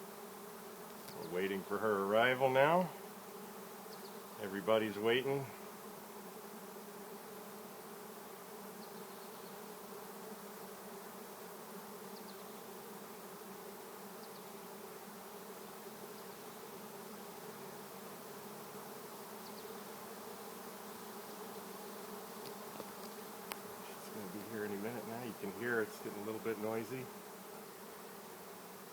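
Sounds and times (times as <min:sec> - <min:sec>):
bee swarm humming: 0:00.0 - 0:28.9.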